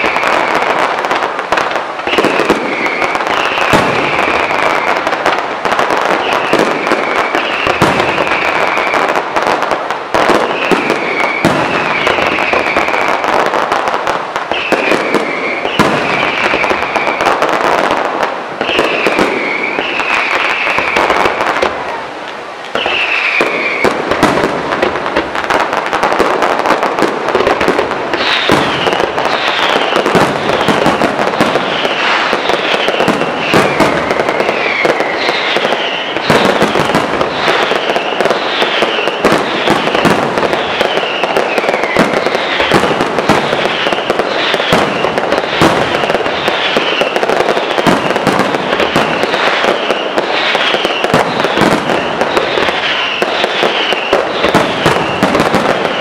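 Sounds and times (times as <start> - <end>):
falling firework whistles: 0.0 - 22.0, 22.6 - 56.0
fireworks bursts and crackling: 0.0 - 56.0.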